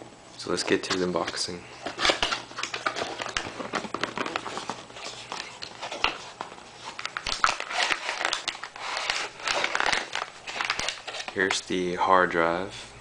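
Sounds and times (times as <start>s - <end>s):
plastic packaging crinkling: 0.5s - 11.6s.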